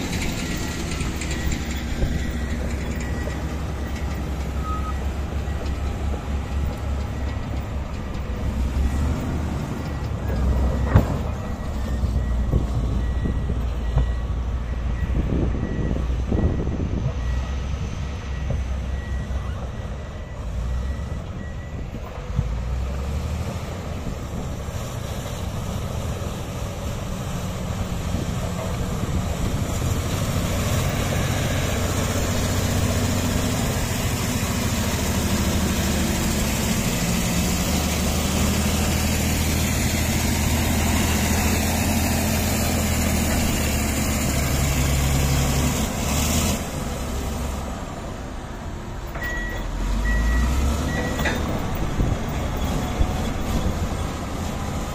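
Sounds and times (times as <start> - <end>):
bulldozer diesel engine under load: 0.0 - 54.9.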